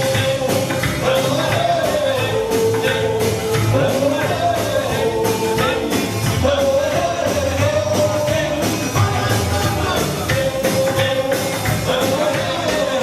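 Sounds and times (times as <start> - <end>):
live rock and roll band: 0.0 - 13.0.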